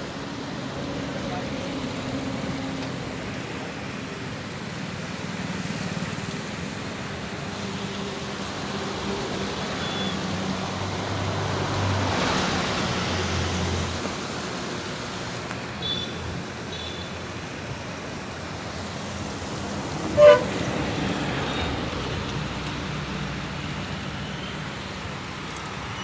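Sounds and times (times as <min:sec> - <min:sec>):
flooded river rushing: 0:00.0 - 0:26.0
vehicles passing: 0:00.0 - 0:26.0.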